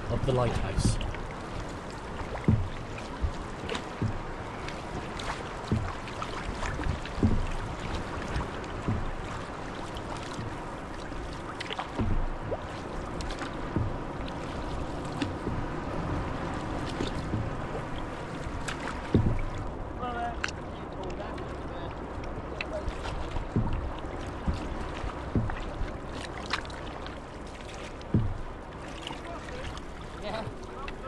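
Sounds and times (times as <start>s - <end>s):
low thumps: 0.0s - 20.6s, 21.9s - 28.9s
paddles dipping through water: 0.0s - 31.0s
water splashing along hull: 0.0s - 31.0s
wind: 0.0s - 31.0s.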